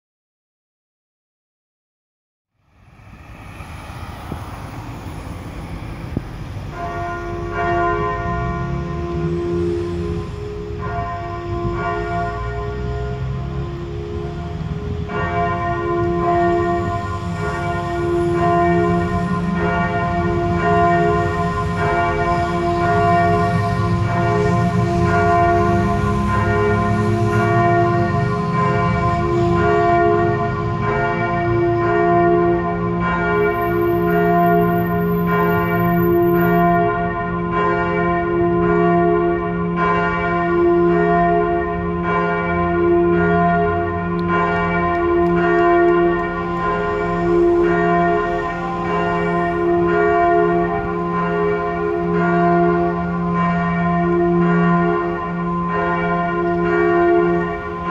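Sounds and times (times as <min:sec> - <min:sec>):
church bell ringing: 0:04.7 - 0:57.9.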